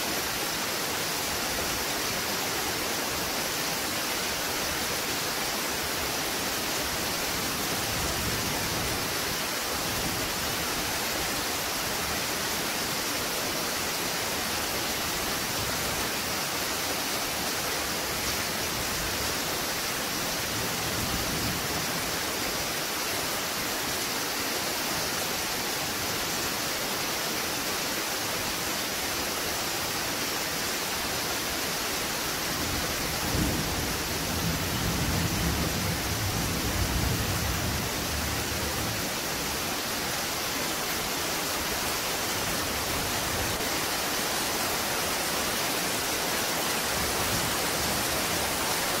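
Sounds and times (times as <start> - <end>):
rain falling: 0.0 - 49.0.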